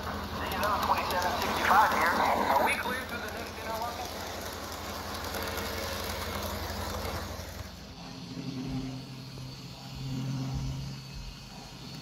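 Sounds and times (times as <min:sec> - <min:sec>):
steady low hum: 0:00.0 - 0:12.0
toy train wheels clattering on track: 0:00.0 - 0:12.0.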